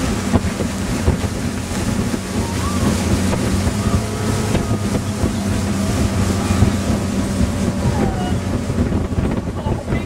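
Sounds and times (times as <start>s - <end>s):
boat engine droning: 0.0s - 10.0s
water rushing past hull: 0.0s - 10.0s
wind buffeting microphone: 0.0s - 10.0s.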